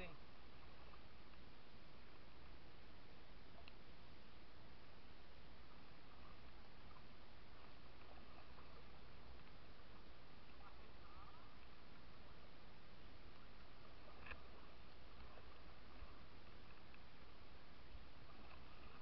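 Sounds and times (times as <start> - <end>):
river water rumbling: 0.0 - 19.0.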